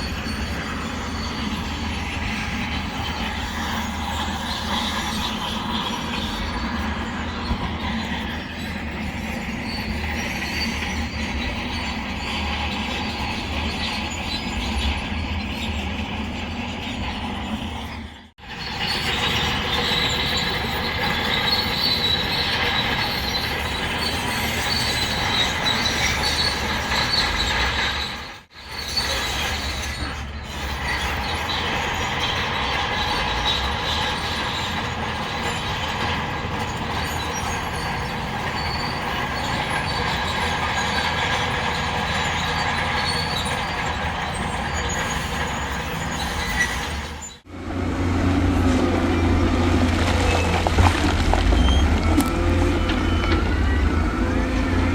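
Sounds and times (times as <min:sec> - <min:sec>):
bulldozer engine running: 0:00.0 - 0:54.9
steel tracks squealing and clattering: 0:00.0 - 0:54.9.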